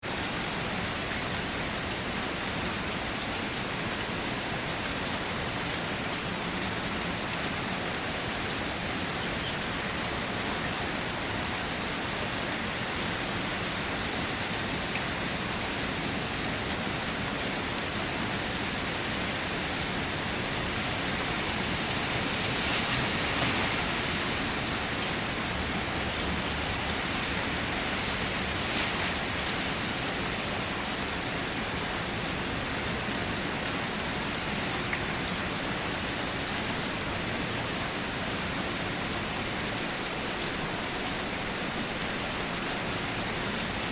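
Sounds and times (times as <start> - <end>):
rain hitting surfaces: 0.0 - 43.9.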